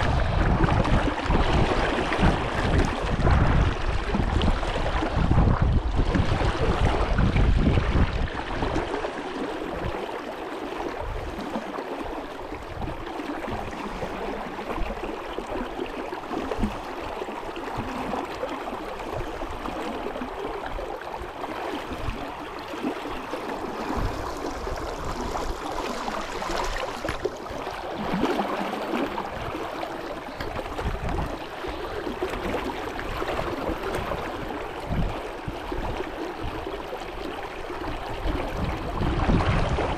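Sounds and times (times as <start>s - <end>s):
wind buffeting microphone: 0.0s - 10.1s, 11.0s - 15.7s, 19.0s - 39.9s
brook flowing: 0.0s - 39.9s.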